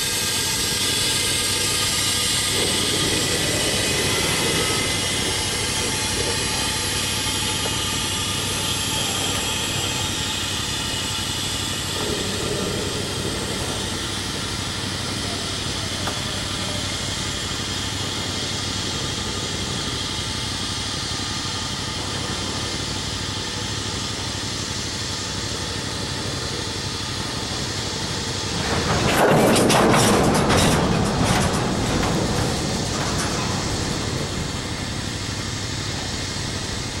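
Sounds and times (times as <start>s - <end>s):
freight train rolling past: 0.0s - 37.0s.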